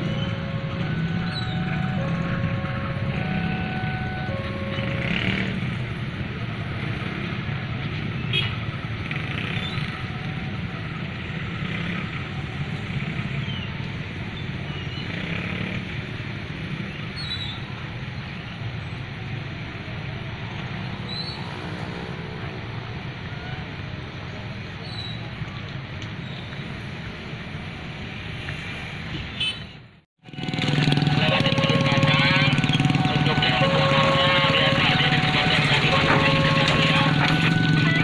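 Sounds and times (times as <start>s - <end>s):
vehicles engine and rolling noise: 0.0s - 38.0s.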